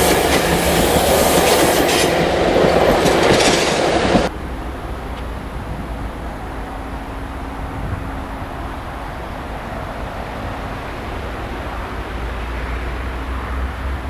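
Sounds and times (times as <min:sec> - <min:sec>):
train rumbling away down track: 0:00.0 - 0:14.0.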